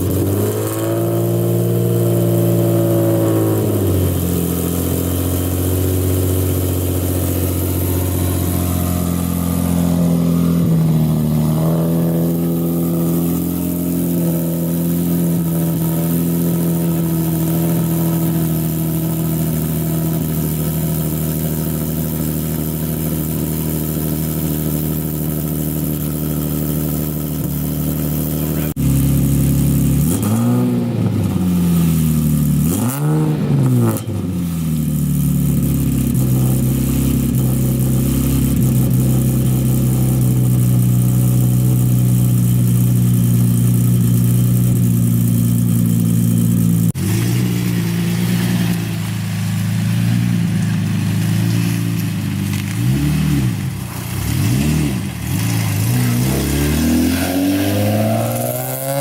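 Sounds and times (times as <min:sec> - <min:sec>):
raspy car engine revving: 0:00.0 - 0:59.0.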